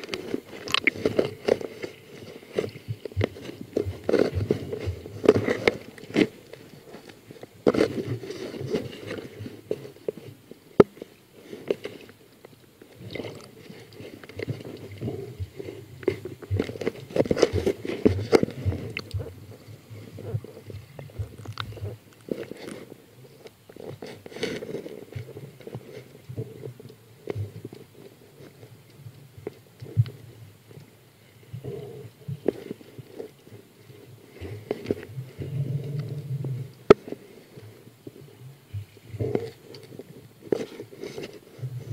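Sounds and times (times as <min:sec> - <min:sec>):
crackle: 0:00.0 - 0:41.9
underwater bubbling and gurgling: 0:00.0 - 0:41.9.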